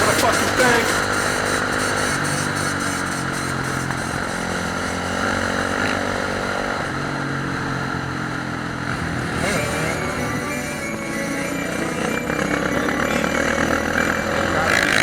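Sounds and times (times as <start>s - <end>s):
dirt bike engines droning: 0.0s - 15.0s.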